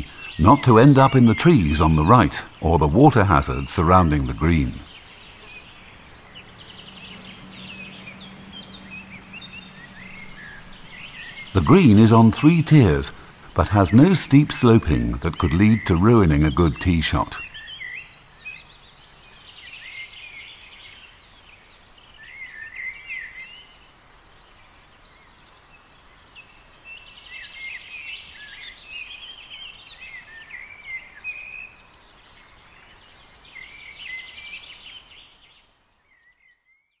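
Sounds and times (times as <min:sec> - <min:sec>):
faint steady hiss: 0:00.0 - 0:36.8
songbirds singing: 0:00.0 - 0:37.0.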